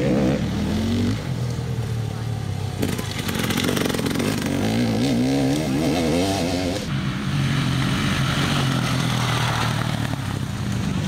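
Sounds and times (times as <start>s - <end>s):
motorcycle engine revving: 0.0s - 1.5s, 2.7s - 11.0s.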